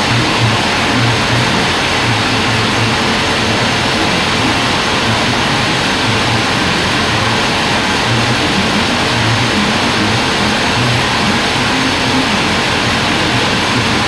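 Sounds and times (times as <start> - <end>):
band sawmill running: 0.0 - 14.0
low wavering hum: 0.0 - 14.0.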